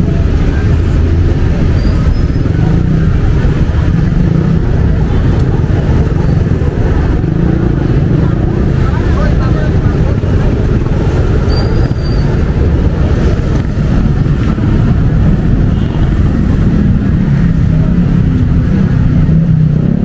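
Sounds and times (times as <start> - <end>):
heavy road traffic rumble: 0.0 - 20.0.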